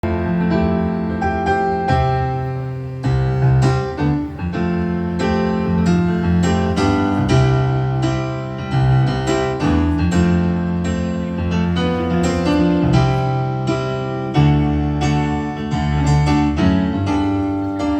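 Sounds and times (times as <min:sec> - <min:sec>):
solo piano chords: 0:00.0 - 0:17.9.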